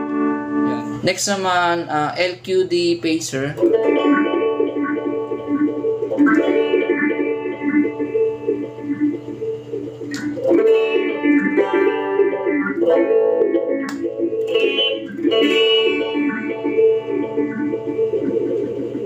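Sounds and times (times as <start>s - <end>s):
electric guitar chords with phaser: 0.0s - 1.0s, 3.6s - 19.0s.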